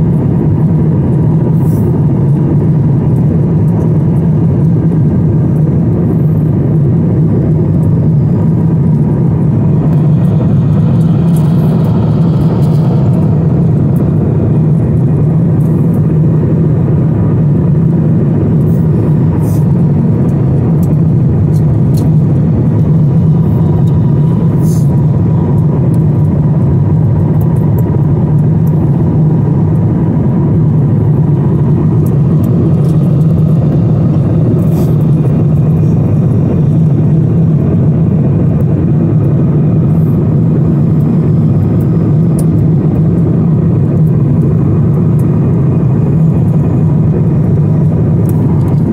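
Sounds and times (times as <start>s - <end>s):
airliner cabin engine rumble: 0.0s - 48.9s
faint steady hum: 0.0s - 48.9s.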